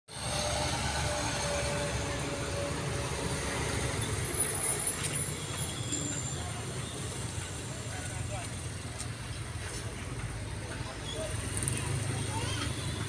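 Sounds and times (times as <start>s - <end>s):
motorcycle traffic rumble: 0.1s - 13.0s.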